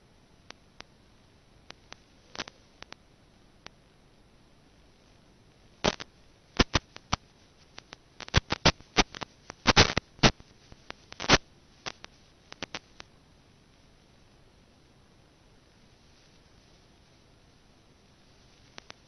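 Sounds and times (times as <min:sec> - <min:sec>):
faint hiss: 0:00.0 - 0:19.0
radio static clicks and crackles: 0:00.0 - 0:19.0.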